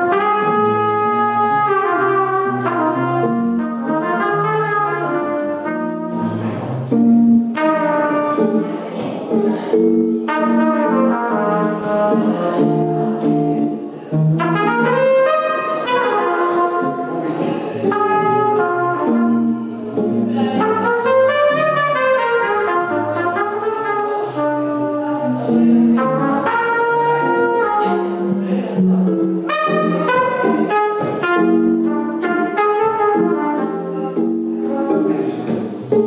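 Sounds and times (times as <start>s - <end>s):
trumpet melody: 0.0s - 9.0s, 9.8s - 35.2s
lower accompanying notes: 0.0s - 36.0s.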